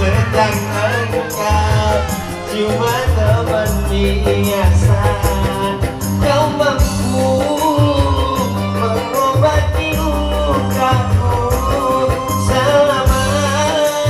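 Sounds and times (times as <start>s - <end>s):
music with steady bass beat: 0.0s - 14.0s.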